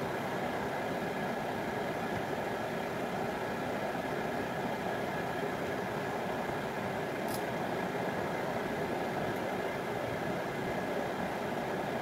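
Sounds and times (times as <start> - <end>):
motor or fan running: 0.0 - 12.0.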